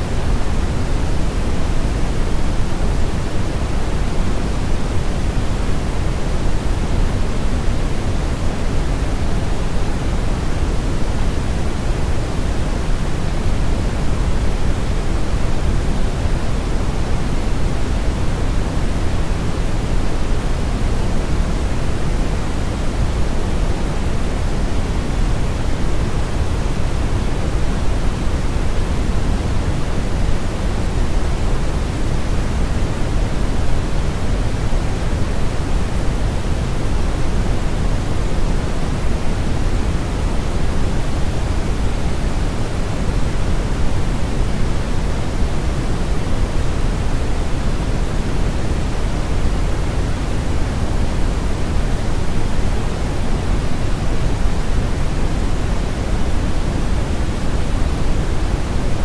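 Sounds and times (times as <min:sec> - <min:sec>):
brown noise: 0:00.0 - 0:59.0.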